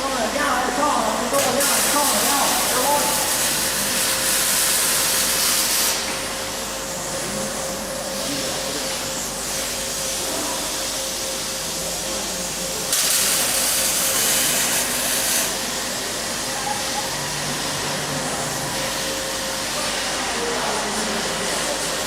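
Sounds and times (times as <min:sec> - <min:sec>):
arc welding hiss: 0:00.7 - 0:07.2, 0:07.8 - 0:22.0.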